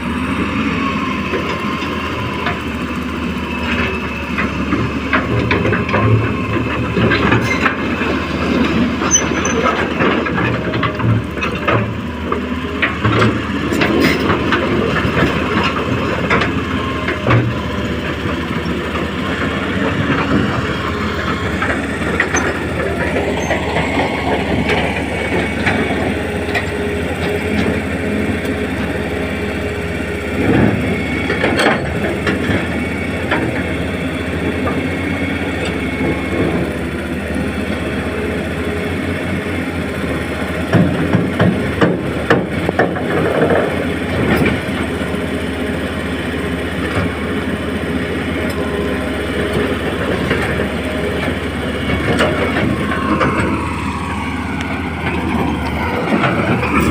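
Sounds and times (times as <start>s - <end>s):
excavator engine drone: 0.0s - 56.9s.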